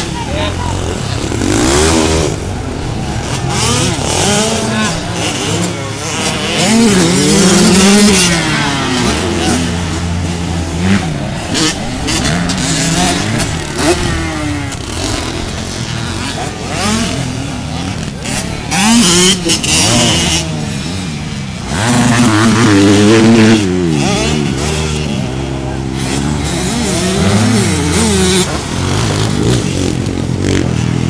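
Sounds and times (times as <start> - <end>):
dirt bikes revving: 0.0 - 31.0.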